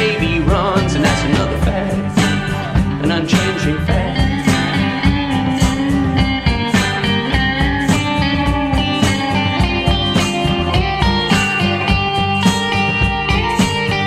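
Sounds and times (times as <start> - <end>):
blues rock guitar with bass and drums: 0.0 - 14.0.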